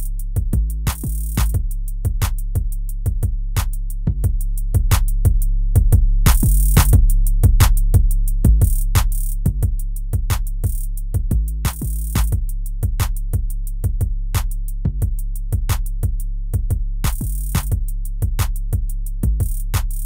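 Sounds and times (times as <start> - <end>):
drum machine beat: 0.0 - 20.0
sustained bass notes: 0.0 - 20.0.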